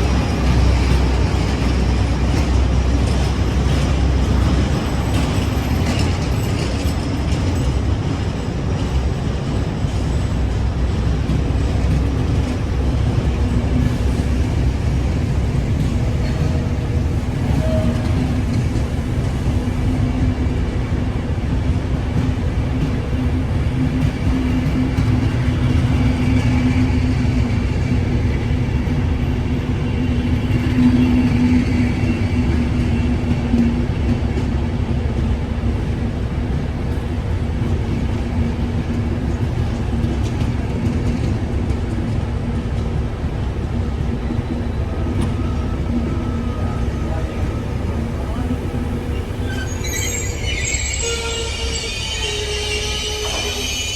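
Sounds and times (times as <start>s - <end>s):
train running on rails: 0.0s - 53.9s.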